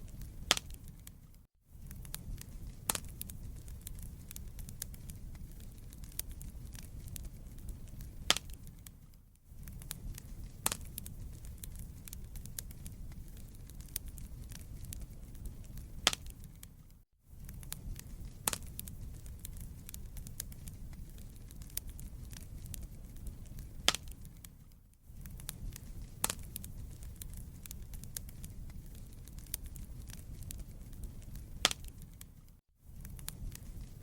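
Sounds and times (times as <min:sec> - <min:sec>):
louder fire pops: 0:00.0 - 0:34.0
wood fire crackling: 0:00.0 - 0:34.0.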